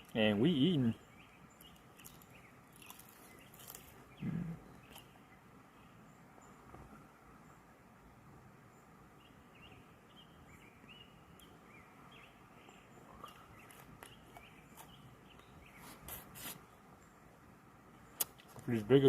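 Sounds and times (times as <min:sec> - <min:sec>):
faint bird chirps: 0:00.1 - 0:07.8, 0:08.6 - 0:17.3.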